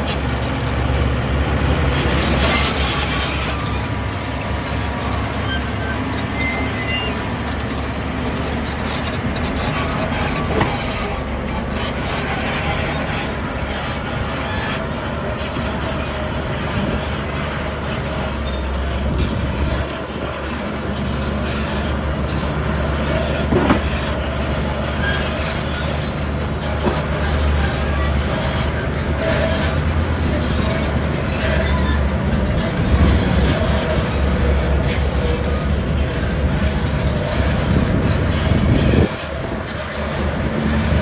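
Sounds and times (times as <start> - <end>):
diesel machinery engine drone: 0.0 - 41.0.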